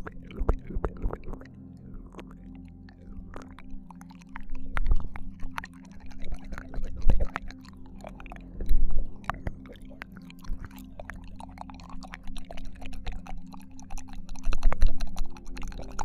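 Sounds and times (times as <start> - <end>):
faint low hum: 0.0 - 16.0
mouth clicks and smacks: 0.0 - 16.0
wet mouth sounds: 0.0 - 16.0.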